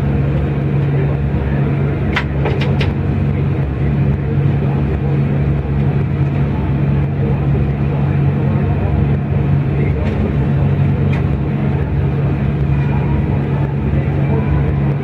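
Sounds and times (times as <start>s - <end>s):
diesel engine rumble from speakers: 0.0s - 15.0s.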